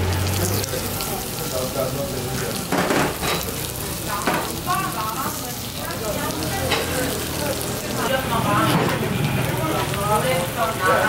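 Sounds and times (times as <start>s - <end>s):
meat sizzling on a grill pan: 0.0s - 11.0s.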